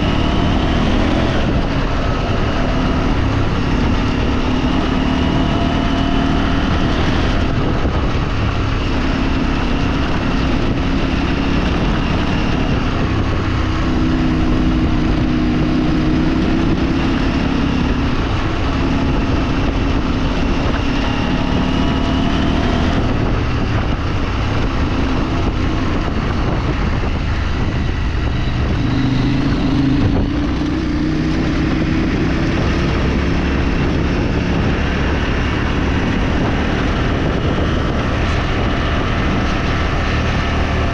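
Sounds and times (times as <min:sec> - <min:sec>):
steady rushing noise: 0:00.0 - 0:40.9
vehicle engine revving: 0:00.0 - 0:40.9.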